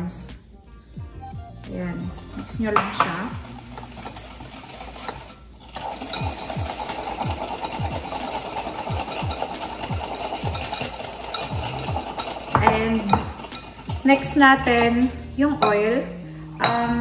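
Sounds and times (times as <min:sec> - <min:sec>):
whisk scraping glass bowl: 0:01.6 - 0:15.8.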